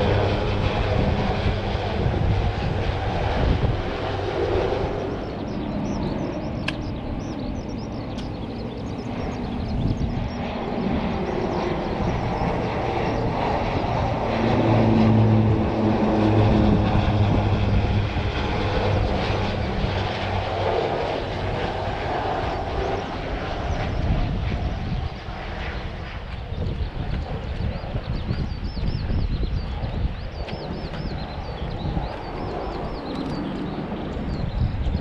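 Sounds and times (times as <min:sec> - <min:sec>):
airplane flying past: 0:00.0 - 0:35.0.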